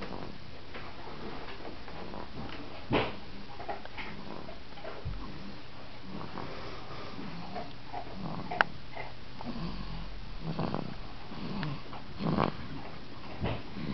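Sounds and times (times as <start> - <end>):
wolf cub snoring: 0.0 - 0.4, 1.1 - 13.9.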